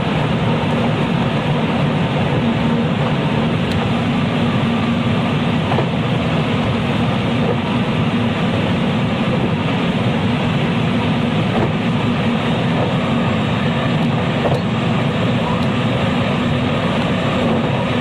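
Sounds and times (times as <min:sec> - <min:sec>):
constant low hum: 0:00.0 - 0:18.0
wheels rumbling on rail: 0:00.0 - 0:18.0.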